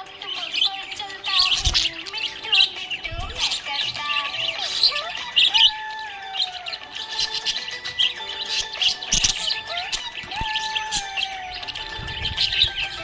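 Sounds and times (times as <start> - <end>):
budgerigars chirping and warbling: 0.0 - 13.0.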